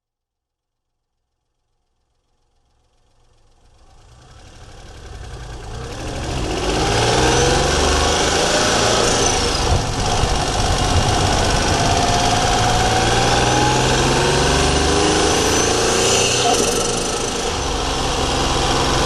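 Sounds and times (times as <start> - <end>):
car engine running: 2.6 - 19.0.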